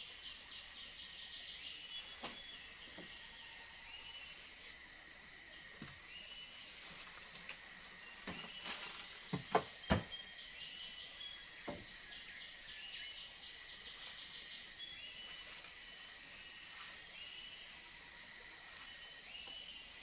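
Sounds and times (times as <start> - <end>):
insect chorus buzzing and chirping: 0.0 - 20.0.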